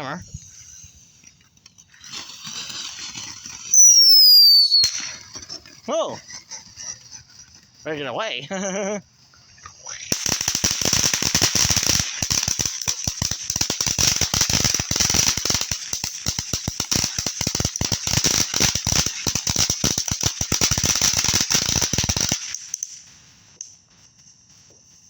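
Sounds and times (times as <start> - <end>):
firework hiss: 0.0 - 25.0
firework crackling pops: 0.3 - 7.2, 9.4 - 25.0.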